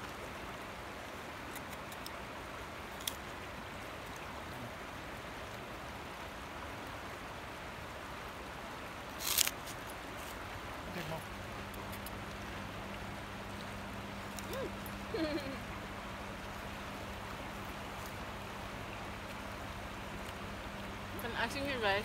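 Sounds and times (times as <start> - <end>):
water rushing along shore: 0.0 - 22.0.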